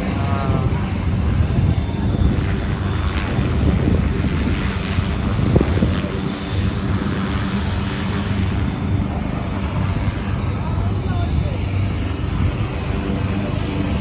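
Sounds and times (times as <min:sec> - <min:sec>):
helicopter rotor droning: 0:00.0 - 0:14.0
high turbine whine: 0:00.0 - 0:14.0.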